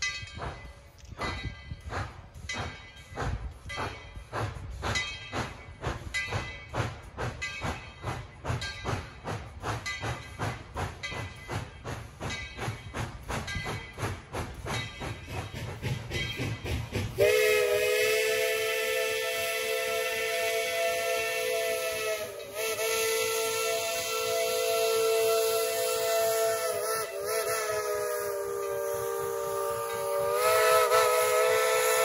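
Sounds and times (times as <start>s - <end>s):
steam locomotive exhaust chuffs: 0.0s - 32.0s.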